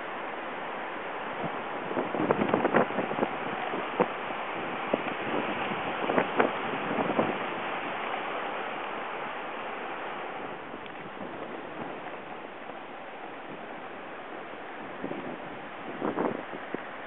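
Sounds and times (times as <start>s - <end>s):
fast-flowing river water rushing: 0.0s - 17.0s.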